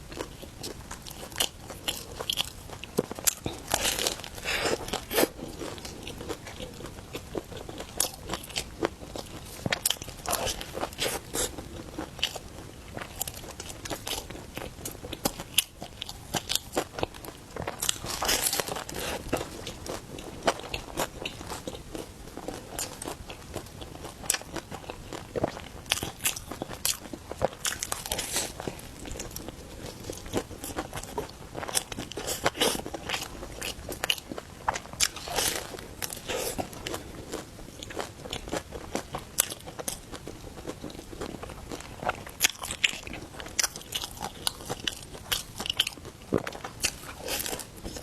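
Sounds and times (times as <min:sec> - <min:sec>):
person chewing crunchy bread: 0:00.0 - 0:48.0.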